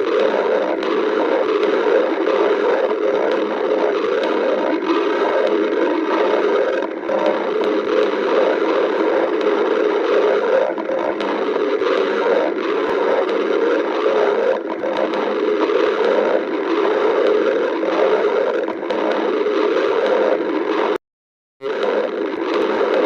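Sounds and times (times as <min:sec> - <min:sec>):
stomach growling: 0:00.0 - 0:21.0, 0:21.6 - 0:23.0.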